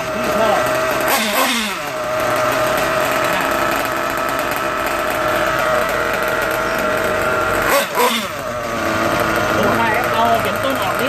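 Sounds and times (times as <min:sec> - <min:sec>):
rc car engine idling: 0:00.0 - 0:11.0.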